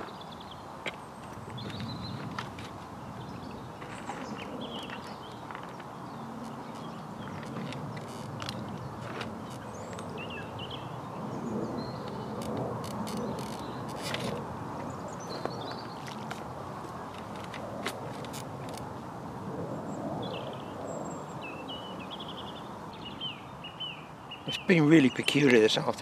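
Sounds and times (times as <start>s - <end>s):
songbirds chirping: 0.0s - 19.0s, 19.8s - 26.0s.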